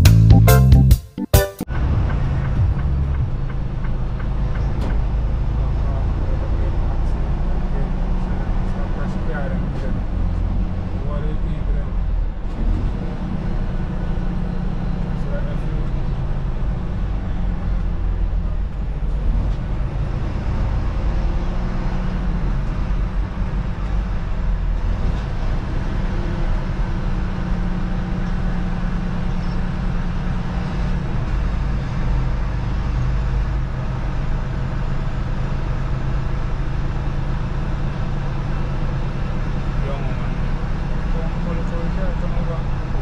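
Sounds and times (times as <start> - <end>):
truck engine drone: 0.0 - 43.0
road noise: 1.6 - 43.0.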